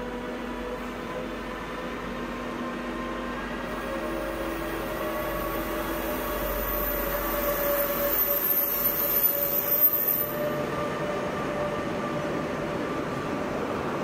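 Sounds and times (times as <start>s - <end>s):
locomotive hum and whine: 0.0s - 14.0s
train coaches rolling past: 0.0s - 14.0s.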